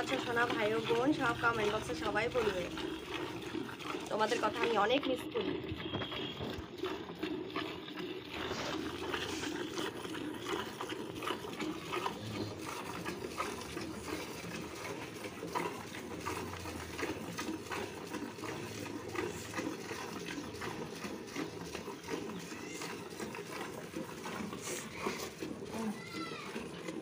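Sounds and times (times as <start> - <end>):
milk squirting into a pail: 0.0 - 27.0.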